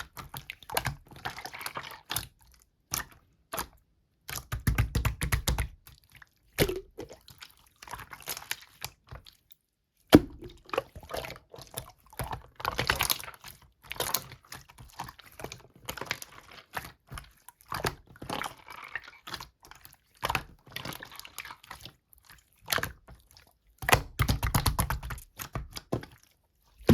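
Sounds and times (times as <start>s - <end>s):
slime squishing: 0.0s - 26.9s.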